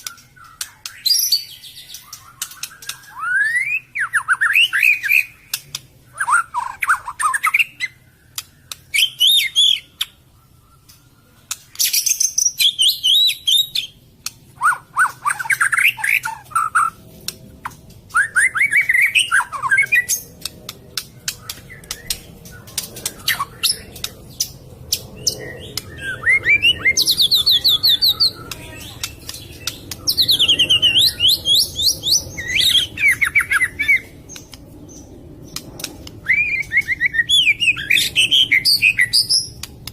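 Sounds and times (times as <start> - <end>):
bird singing whistles and trills: 0.0 - 14.0, 14.6 - 17.0, 17.6 - 20.4, 21.0 - 39.7.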